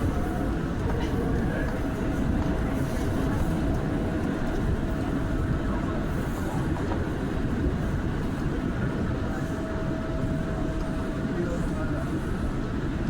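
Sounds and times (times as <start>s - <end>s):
subway wheels rumbling on rails: 0.0s - 13.0s.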